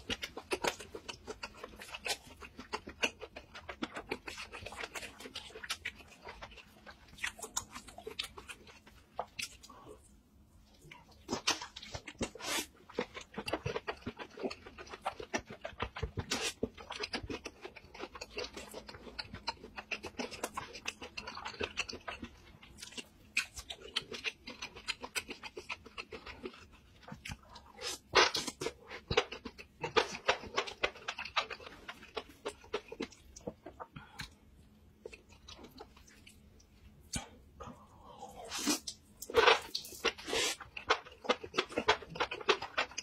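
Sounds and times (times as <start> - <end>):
wet chewing and slurping: 0.0 - 10.1, 10.8 - 36.5, 37.1 - 43.0.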